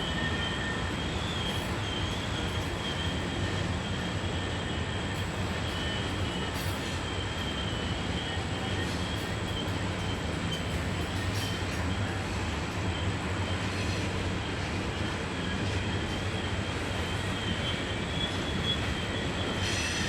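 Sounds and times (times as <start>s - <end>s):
train cars rumbling past: 0.0s - 20.0s
wheel flanges squealing: 0.0s - 20.0s.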